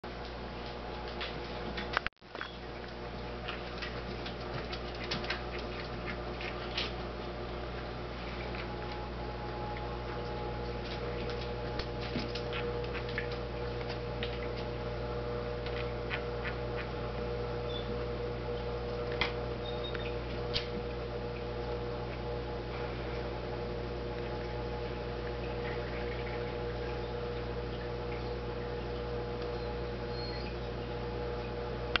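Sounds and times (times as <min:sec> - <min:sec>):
aquarium equipment humming: 0:00.0 - 0:32.0.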